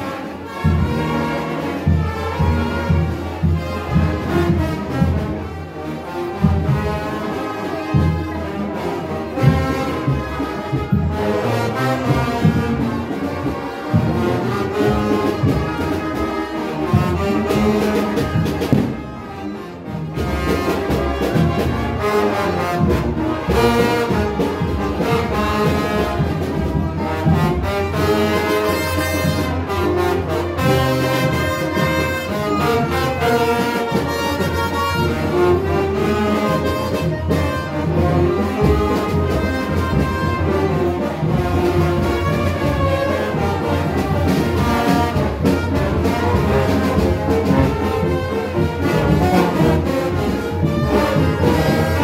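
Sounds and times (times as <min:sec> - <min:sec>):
brass band playing: 0:00.0 - 0:52.0.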